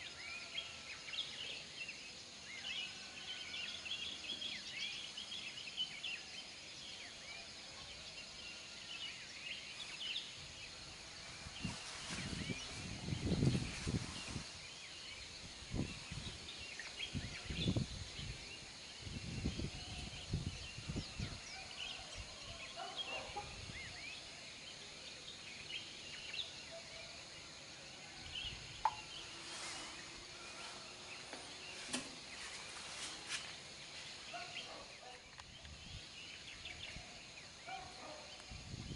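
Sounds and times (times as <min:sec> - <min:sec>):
insects buzzing: 0:00.0 - 0:22.1, 0:22.7 - 0:38.9
small birds chirping: 0:03.7 - 0:38.9.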